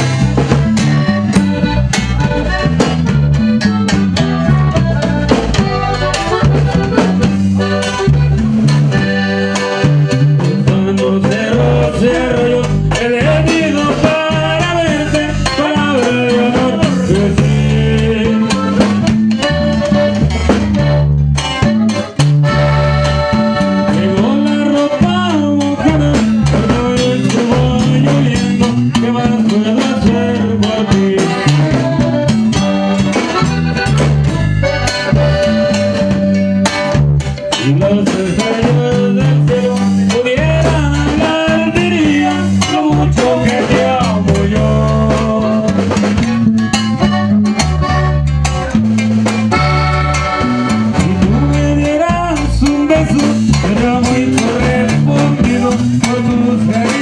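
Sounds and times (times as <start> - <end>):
button accordion melody: 0.0 - 57.0
drum kit beat: 0.0 - 57.0
electric bass: 0.0 - 57.0
guitar: 0.0 - 57.0.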